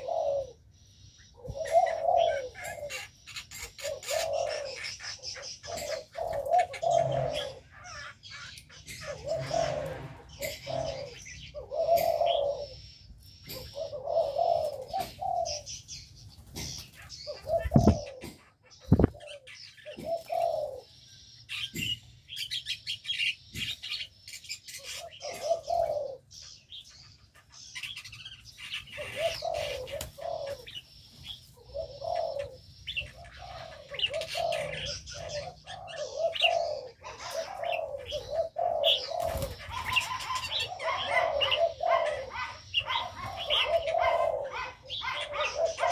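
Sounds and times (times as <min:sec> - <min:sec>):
dove-like cooing: 0:00.0 - 0:45.9
small birds chirping: 0:00.0 - 0:45.9.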